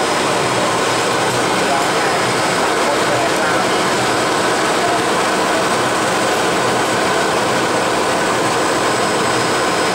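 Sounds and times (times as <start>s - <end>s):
machine and air noise: 0.0s - 9.9s.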